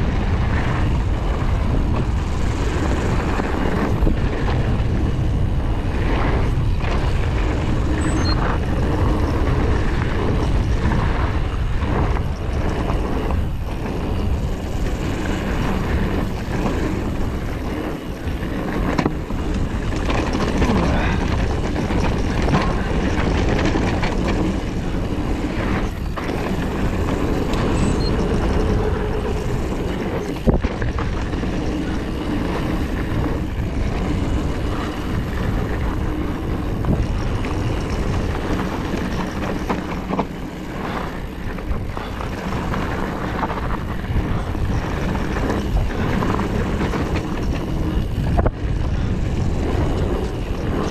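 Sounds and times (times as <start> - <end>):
bike rattling and knocking: 0.0 - 50.9
wind buffeting microphone: 0.0 - 50.9.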